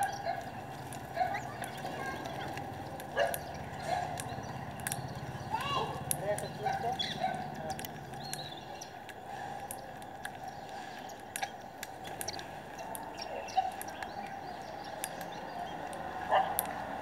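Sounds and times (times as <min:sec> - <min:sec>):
birds chirping: 0:00.0 - 0:17.0
sharp ticks: 0:00.0 - 0:17.0.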